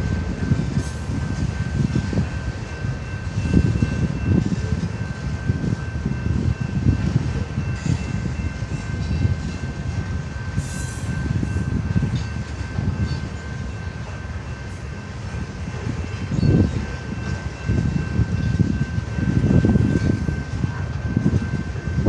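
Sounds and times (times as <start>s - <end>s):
freight train rumbling on track: 0.0s - 22.0s.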